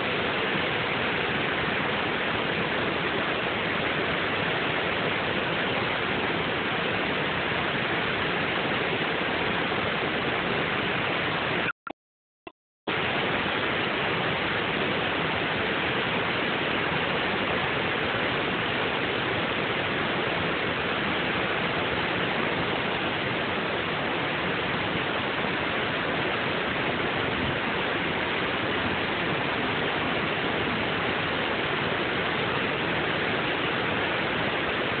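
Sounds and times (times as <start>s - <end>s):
river water rushing over dam: 0.0s - 11.7s, 12.9s - 35.0s.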